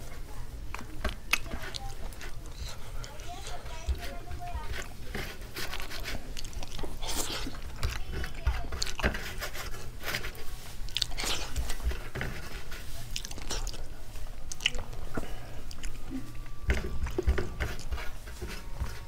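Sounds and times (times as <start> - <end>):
fingers working food on steel plate: 0.0 - 19.0
person chewing food: 0.0 - 19.0.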